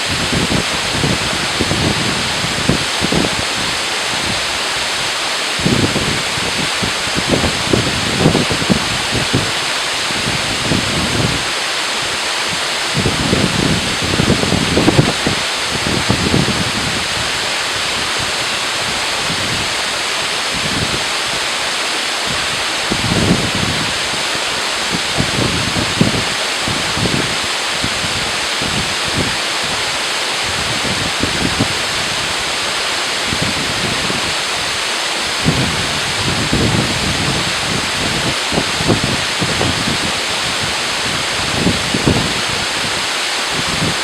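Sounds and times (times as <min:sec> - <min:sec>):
wind buffeting microphone: 0:00.0 - 0:21.5, 0:22.2 - 0:44.0
waterfall rushing: 0:00.0 - 0:44.0.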